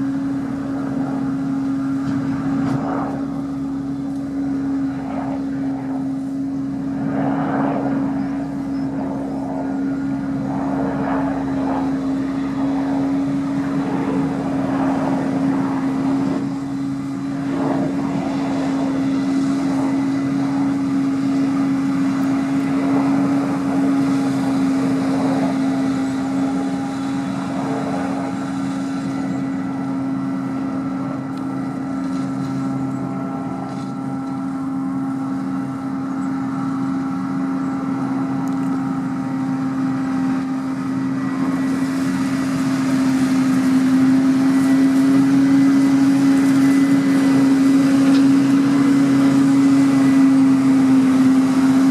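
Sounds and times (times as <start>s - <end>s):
farm machinery droning: 0.0s - 51.9s.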